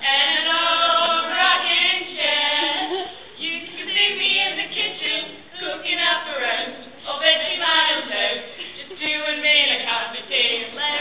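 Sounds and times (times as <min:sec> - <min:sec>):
women singing together: 0:00.0 - 0:11.0.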